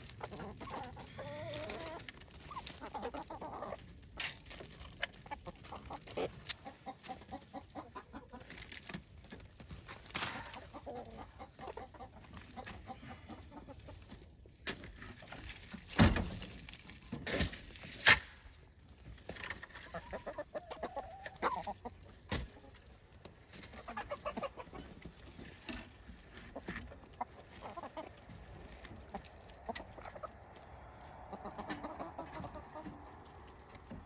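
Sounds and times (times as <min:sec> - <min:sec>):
hens clucking: 0:00.0 - 0:15.9, 0:18.9 - 0:34.0
hens pecking and scratching: 0:00.0 - 0:34.0.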